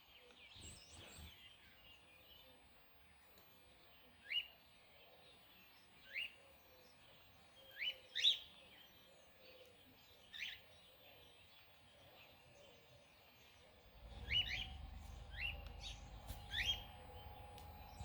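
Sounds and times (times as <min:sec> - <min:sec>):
birds chirping: 0:00.0 - 0:02.6, 0:05.2 - 0:18.0.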